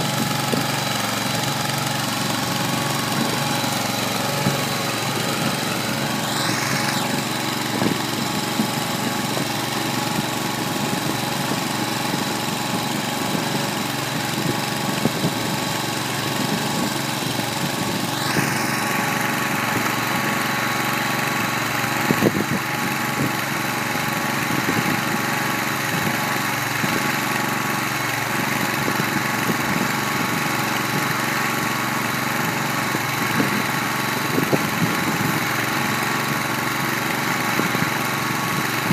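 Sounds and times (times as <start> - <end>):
feed mixer turning hay: 0.0 - 38.9
gas engine running under load: 0.0 - 38.9.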